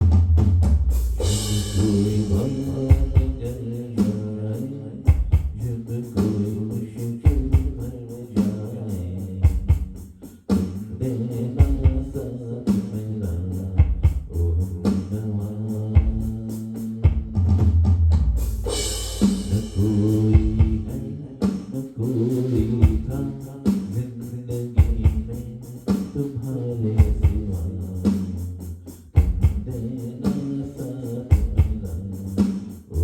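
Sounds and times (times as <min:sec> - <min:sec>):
band music with steady beat: 0:00.0 - 0:33.0.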